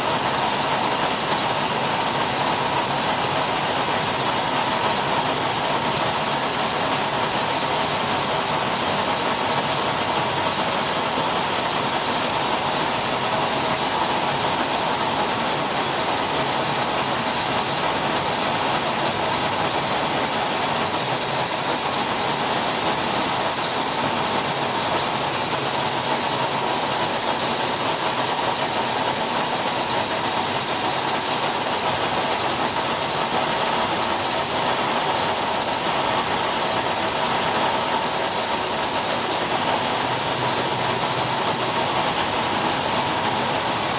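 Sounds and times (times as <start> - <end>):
milling machine whirring: 0.1 - 43.9.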